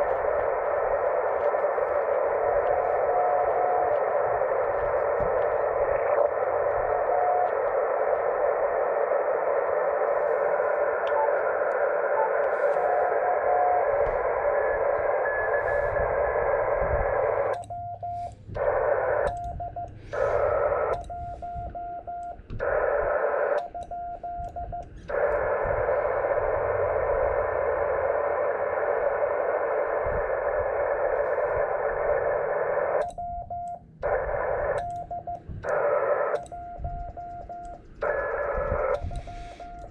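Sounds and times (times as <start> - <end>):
morse code sidetone: 0.0 - 31.8, 32.4 - 39.9
radio band noise hiss: 0.0 - 33.2, 33.8 - 39.9
faint morse code tones: 0.0 - 39.9.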